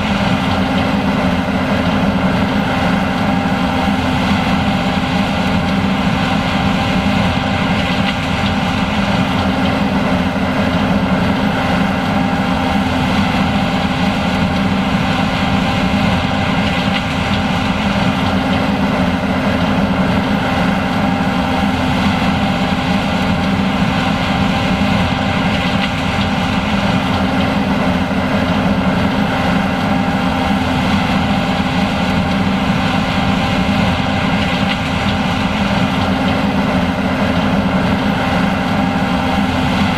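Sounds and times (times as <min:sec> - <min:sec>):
combine engine drone: 0:00.0 - 0:39.9.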